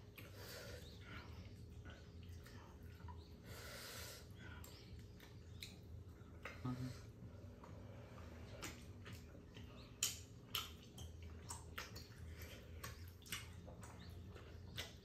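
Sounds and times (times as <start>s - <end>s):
mouth sounds of eating: 0.0s - 15.0s.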